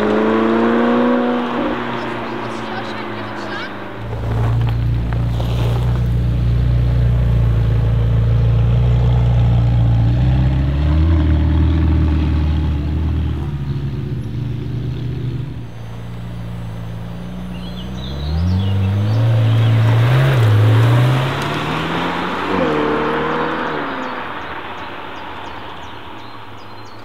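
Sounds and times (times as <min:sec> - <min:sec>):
car engine droning at low revs: 0:00.0 - 0:27.0.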